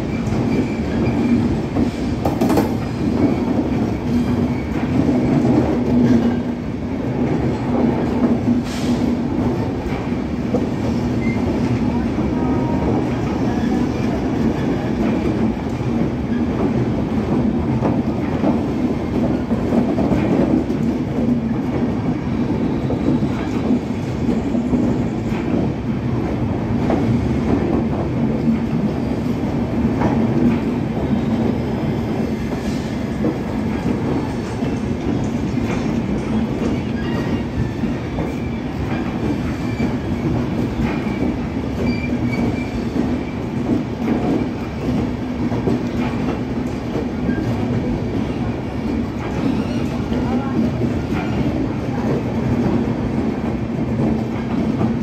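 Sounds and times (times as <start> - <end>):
train coaches rumbling past: 0.0 - 55.0.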